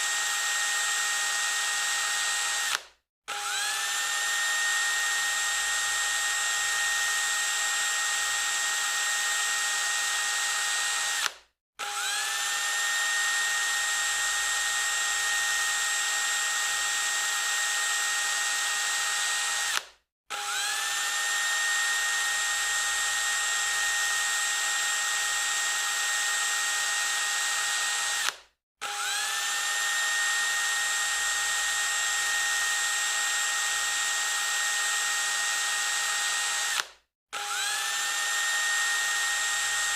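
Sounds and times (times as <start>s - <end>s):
electric drill whining: 0.0s - 39.9s.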